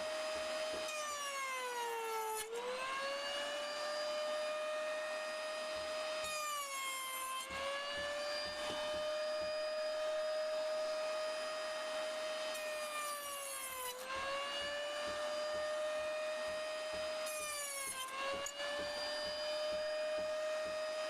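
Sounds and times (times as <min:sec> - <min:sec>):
electric saw cutting wood: 0:00.0 - 0:21.0.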